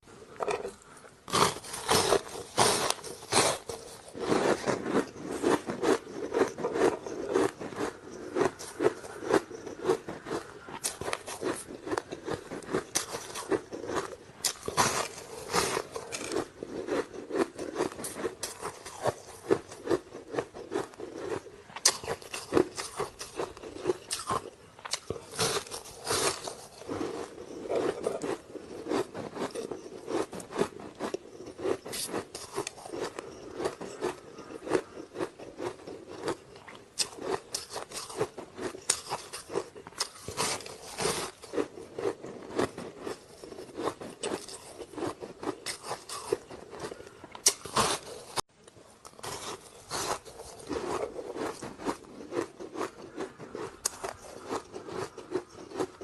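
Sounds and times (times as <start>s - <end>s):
ice being bitten and chewed: 0.2s - 56.0s.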